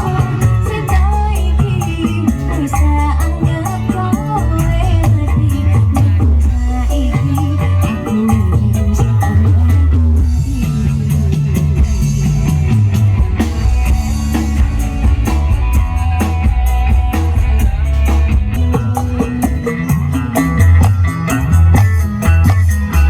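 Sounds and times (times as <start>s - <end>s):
music with drums and guitar: 0.0s - 23.0s.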